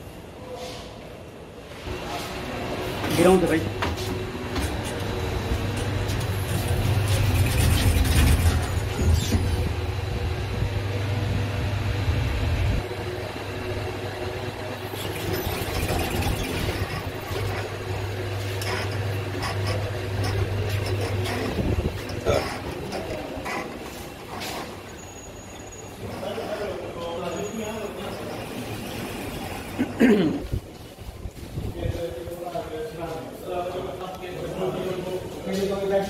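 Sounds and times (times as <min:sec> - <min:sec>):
lift car humming: 0:01.9 - 0:30.9.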